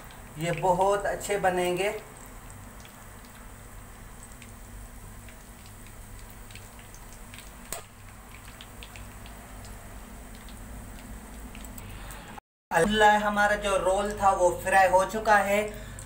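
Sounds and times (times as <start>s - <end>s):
food deep-frying in oil: 0.0s - 12.4s, 13.0s - 16.0s.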